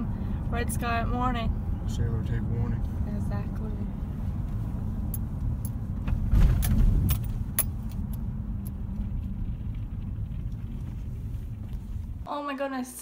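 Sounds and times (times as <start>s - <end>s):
engine and road rumble: 0.0s - 12.3s.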